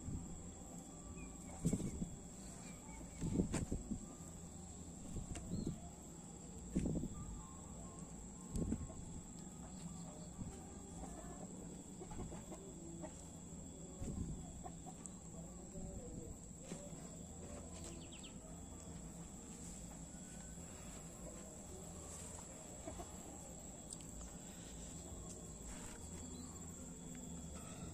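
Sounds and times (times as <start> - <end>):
faint high whine: 0.0 - 27.9
low hum: 0.0 - 27.9.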